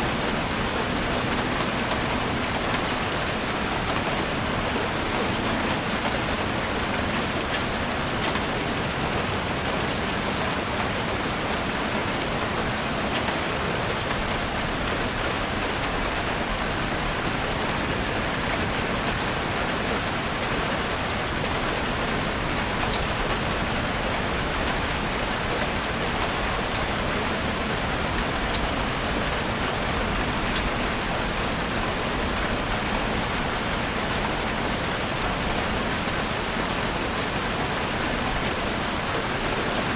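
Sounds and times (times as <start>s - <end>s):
heavy rain drumming on a roof: 0.0s - 39.9s.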